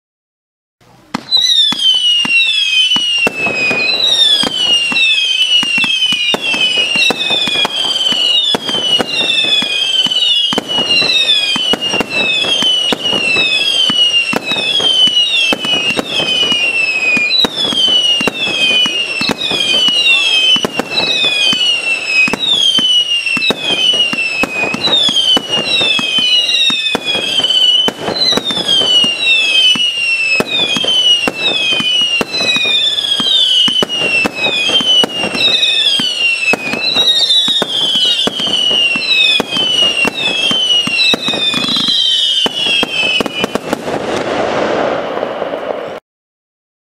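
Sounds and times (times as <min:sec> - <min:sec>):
fireworks crackling and popping: 0:00.8 - 0:46.0
fireworks whistling: 0:00.8 - 0:46.0.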